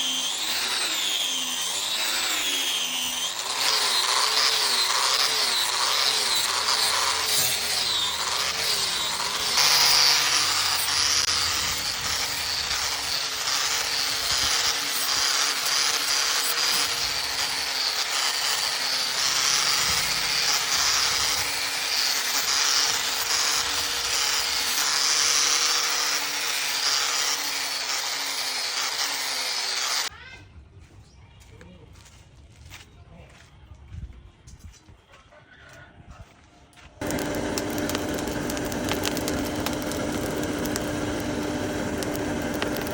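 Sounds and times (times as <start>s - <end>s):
abrasive power tool running: 0.0s - 30.1s, 37.0s - 42.9s.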